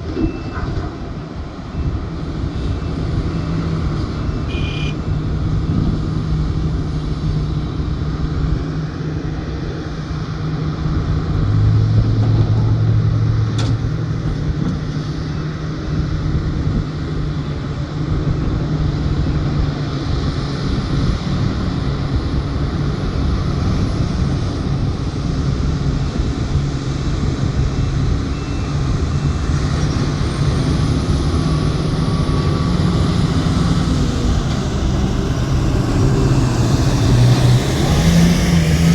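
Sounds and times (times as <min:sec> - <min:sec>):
large diesel engines running: 0:00.0 - 0:38.9.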